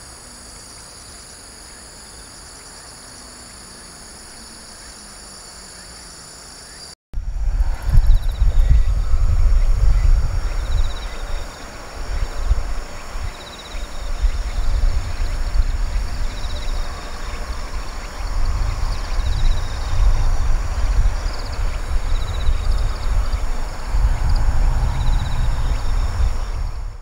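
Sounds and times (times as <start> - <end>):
high insect trilling: 0.0 - 26.7.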